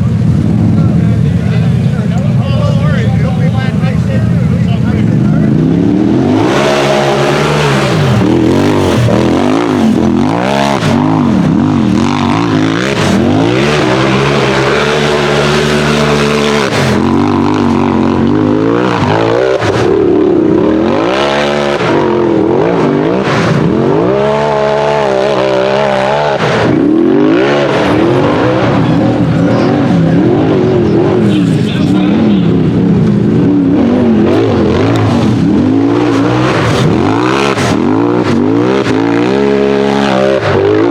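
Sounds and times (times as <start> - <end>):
engine revving under throttle: 0.0 - 40.9.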